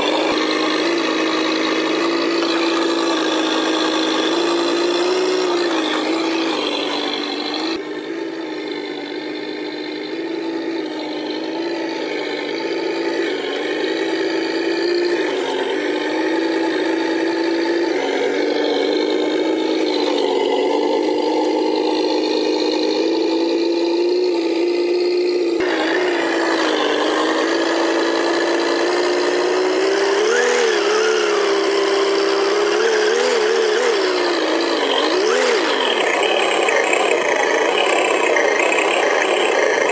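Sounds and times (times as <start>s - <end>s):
engine revving: 0.0s - 39.9s
simulated engine sound: 0.0s - 39.9s.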